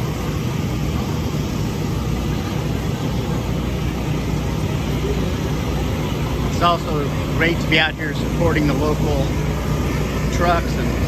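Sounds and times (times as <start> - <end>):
outdoor background noise: 0.0 - 11.0
steady low rumble: 0.0 - 11.0.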